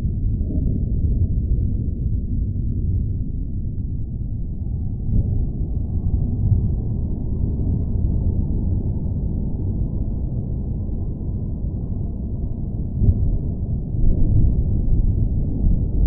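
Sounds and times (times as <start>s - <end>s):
deep low rumbling: 0.0s - 16.0s.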